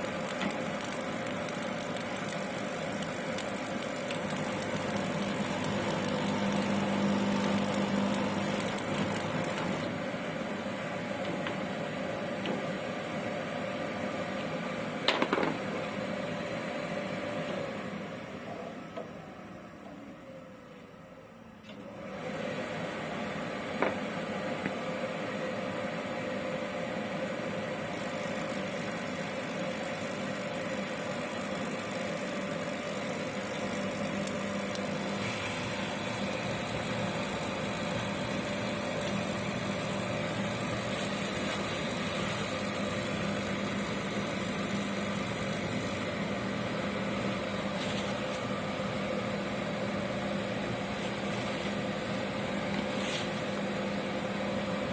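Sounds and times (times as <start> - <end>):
oil burner running: 0.0 - 19.4, 21.6 - 54.9.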